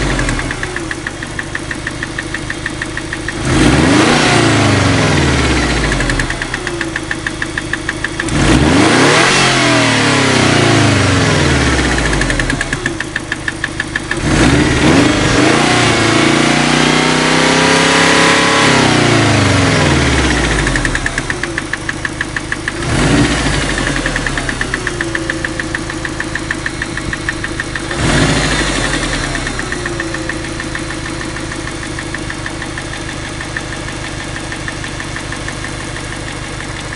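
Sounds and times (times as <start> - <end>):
car engine idling and revving: 0.0 - 36.9
engine knocking: 0.0 - 36.9.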